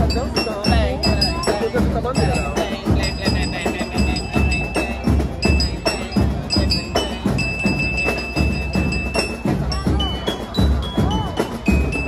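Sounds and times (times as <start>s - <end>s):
glockenspiel melody: 0.0s - 12.0s
marching band drums: 0.0s - 12.0s.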